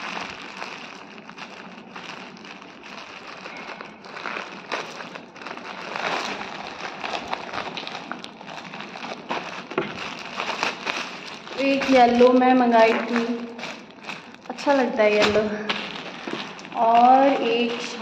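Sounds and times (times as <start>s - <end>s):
plastic bag rustling and tearing: 0.0s - 18.0s.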